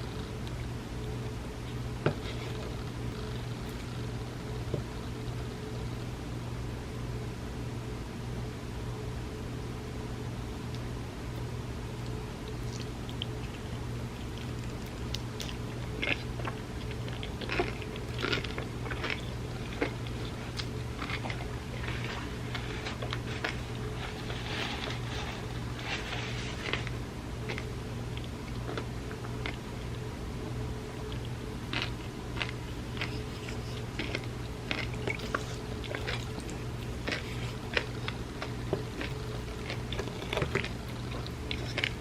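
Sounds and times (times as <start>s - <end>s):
chewing and wet mouth sounds: 0.0s - 5.6s, 12.0s - 30.1s, 30.9s - 42.0s
steady low hum: 0.0s - 42.0s.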